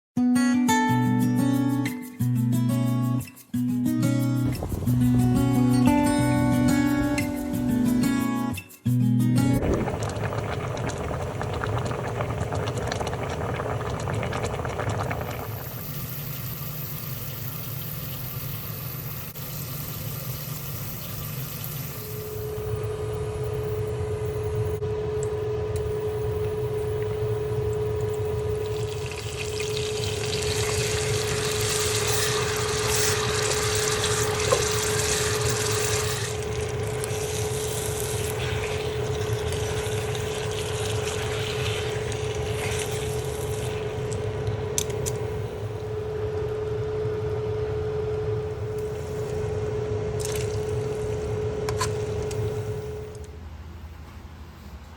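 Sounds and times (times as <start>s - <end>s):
steady hum: 4.3s - 8.6s, 9.4s - 54.9s.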